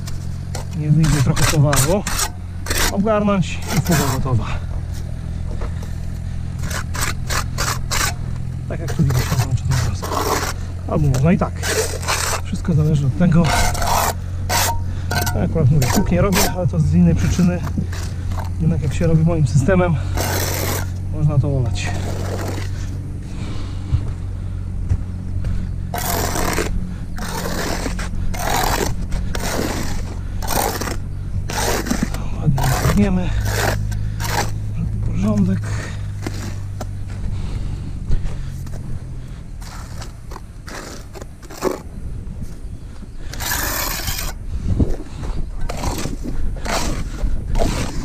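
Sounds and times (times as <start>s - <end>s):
trowel scraping mortar on concrete: 0.0s - 5.1s, 6.6s - 23.0s, 25.9s - 37.0s, 39.6s - 41.9s, 43.2s - 45.0s, 45.7s - 48.0s
low machine hum: 0.0s - 48.0s.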